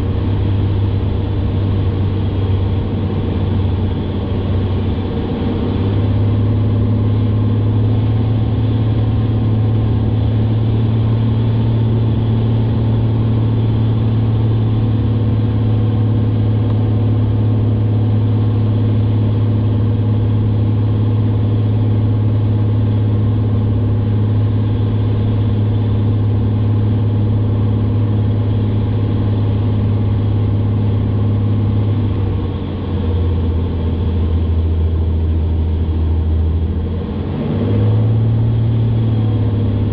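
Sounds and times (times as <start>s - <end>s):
light airplane engine droning: 0.0s - 39.9s.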